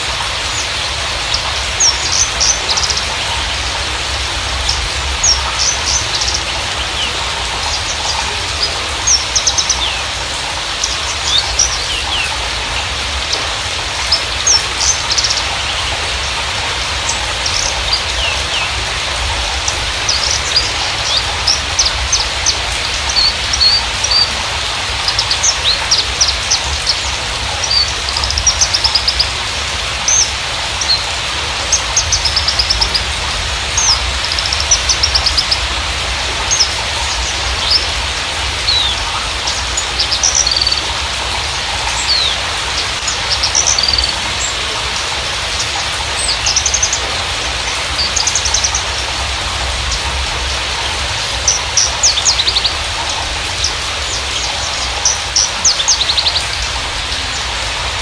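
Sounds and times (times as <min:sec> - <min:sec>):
bird singing chirps and trills: 0:00.0 - 0:58.0
steady hiss: 0:00.0 - 0:58.0.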